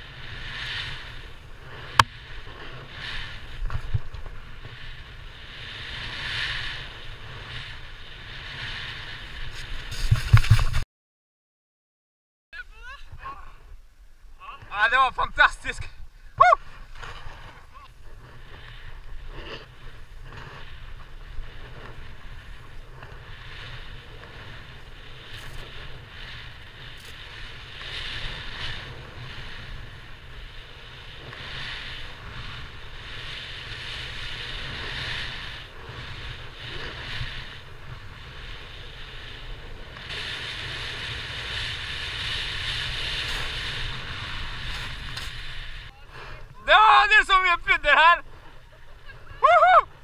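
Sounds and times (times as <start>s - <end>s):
snowboard scraping on snow: 0.0s - 10.8s, 16.5s - 50.0s
wind rumbling on microphone: 0.0s - 10.8s, 12.7s - 50.0s.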